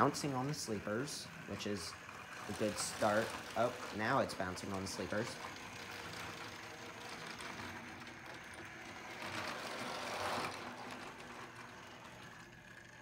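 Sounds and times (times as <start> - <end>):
model train wheels rattling: 0.0 - 13.0
small electric motor whirring: 0.0 - 13.0.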